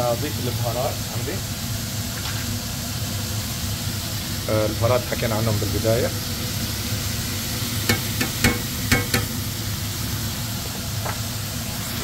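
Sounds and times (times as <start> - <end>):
meat and onions sizzling: 0.0 - 12.0.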